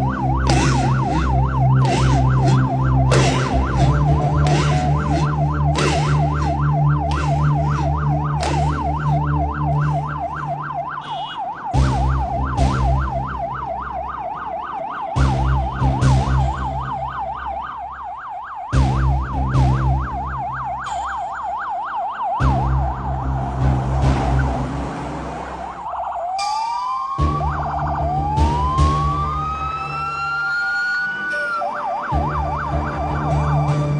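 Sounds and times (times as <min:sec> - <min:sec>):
police siren yelp and wail: 0:00.0 - 0:33.9.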